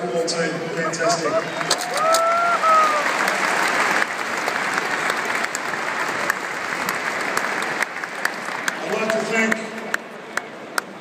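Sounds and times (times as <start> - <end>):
stadium crowd applauding: 1.1 - 11.0.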